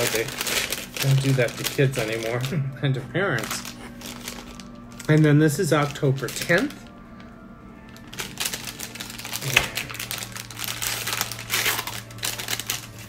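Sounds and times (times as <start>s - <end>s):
paper bag crinkling and rustling: 0.0s - 13.0s.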